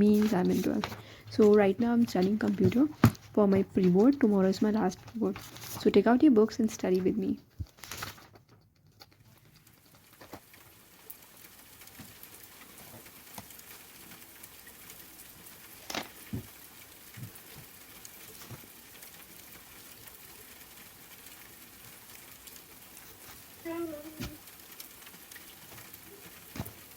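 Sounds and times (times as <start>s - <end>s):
soft rain falling: 0.0s - 26.9s.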